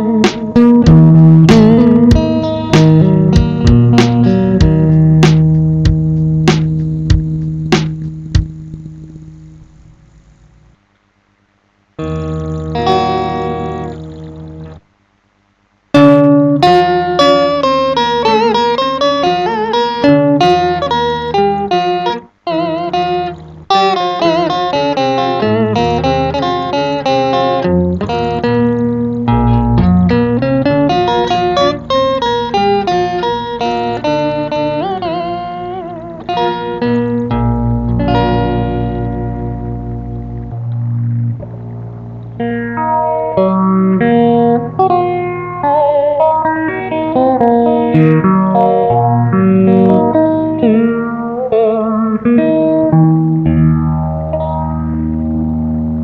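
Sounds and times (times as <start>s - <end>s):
electric guitar melody: 0.0s - 10.2s, 12.0s - 14.8s, 15.9s - 56.0s.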